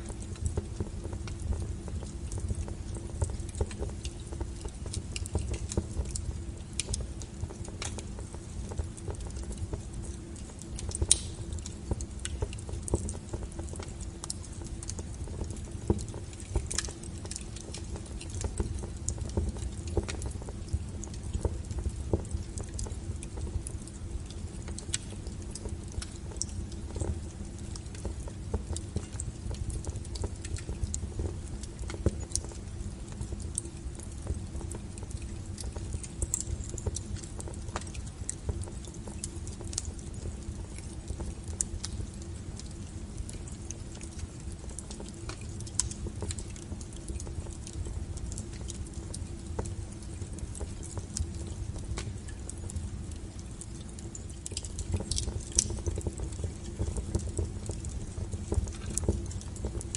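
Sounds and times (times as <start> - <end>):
firewood crackling and popping: 0.0 - 59.9
low rumble of flames: 0.0 - 59.9.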